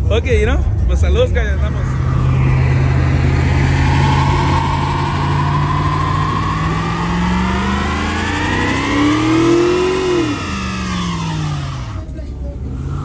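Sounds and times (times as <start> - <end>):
truck engine revving hard: 1.6 - 13.0.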